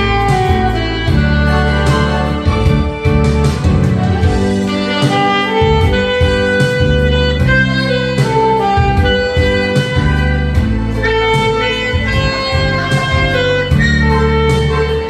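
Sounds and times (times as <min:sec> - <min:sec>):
alto saxophone playing ballad melody: 0:00.0 - 0:15.0
backing track with bass and drums: 0:00.0 - 0:15.0.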